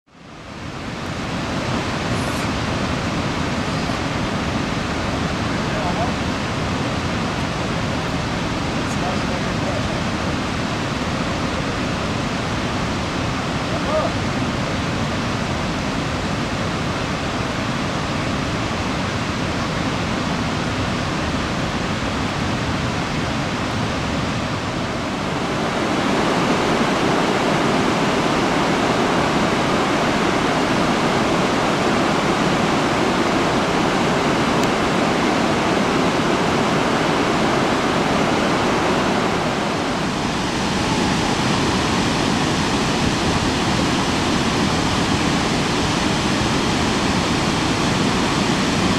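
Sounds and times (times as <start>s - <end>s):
rushing water of rapids: 0.1s - 48.9s.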